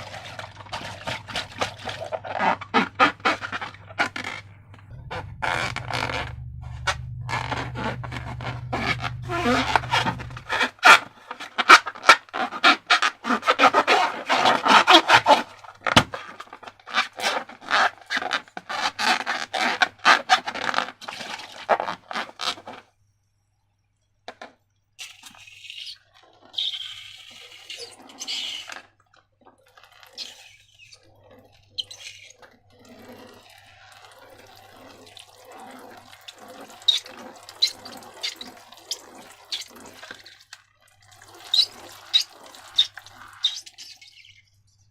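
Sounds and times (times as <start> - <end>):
wet slime squelching: 0.0 - 22.8, 25.0 - 44.9.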